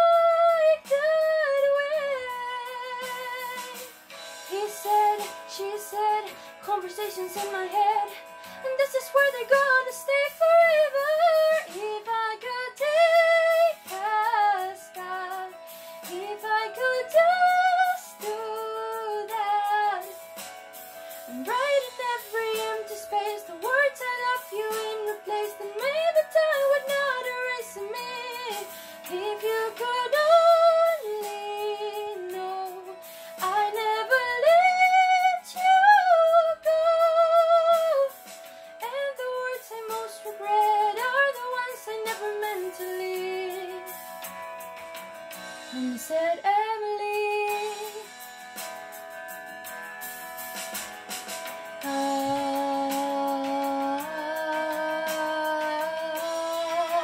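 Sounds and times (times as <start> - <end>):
woman singing a ballad: 0.0 - 44.3, 45.4 - 48.2, 51.8 - 57.0
soft held accompaniment notes: 0.0 - 57.0.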